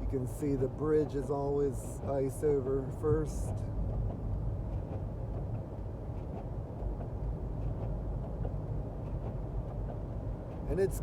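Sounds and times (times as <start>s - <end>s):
car driving rumble: 0.0s - 11.0s
road noise: 0.0s - 11.0s.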